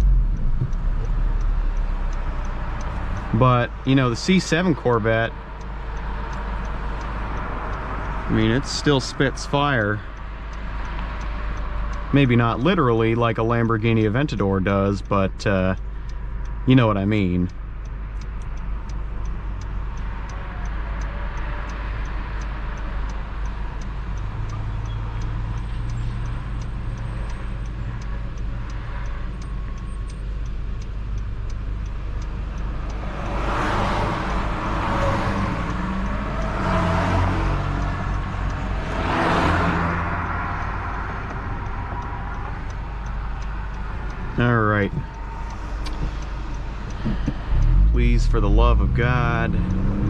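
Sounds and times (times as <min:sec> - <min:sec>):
faint rapid ticking: 0:00.0 - 0:49.9
car engine and road noise: 0:00.0 - 0:50.0
rushes of traffic noise: 0:00.0 - 0:50.0.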